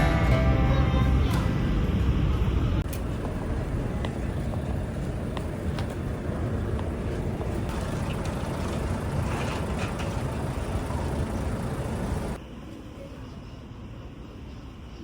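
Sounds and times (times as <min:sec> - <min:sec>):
motor vehicles rumbling: 0:00.0 - 0:12.4.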